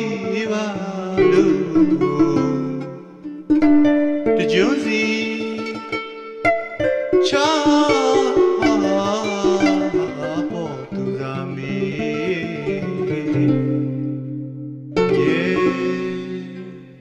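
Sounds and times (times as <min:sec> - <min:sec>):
man singing: 0:00.0 - 0:03.4, 0:04.2 - 0:06.2, 0:07.1 - 0:14.2, 0:15.0 - 0:17.0
arched harp plucked: 0:00.0 - 0:17.0.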